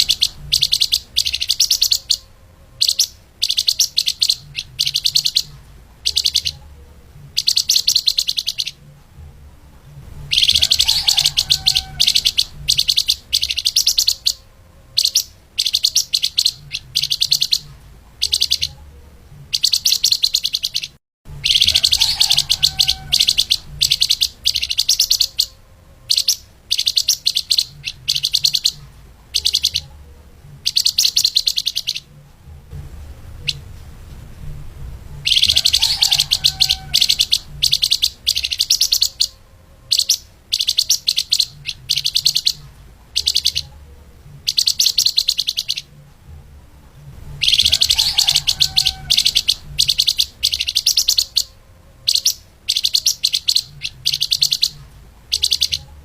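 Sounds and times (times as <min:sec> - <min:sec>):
bird singing rapid trills: 0:00.0 - 0:06.7, 0:07.3 - 0:08.8, 0:10.3 - 0:18.8, 0:19.5 - 0:29.9, 0:30.6 - 0:32.1, 0:35.2 - 0:43.7, 0:44.4 - 0:45.9, 0:47.4 - 0:55.9.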